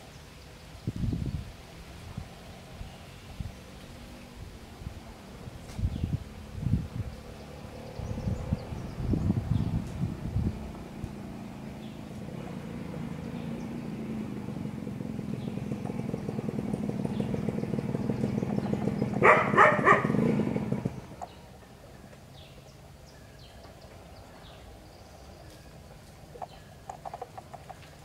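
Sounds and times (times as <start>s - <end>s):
motor engine hum: 0.0s - 28.0s.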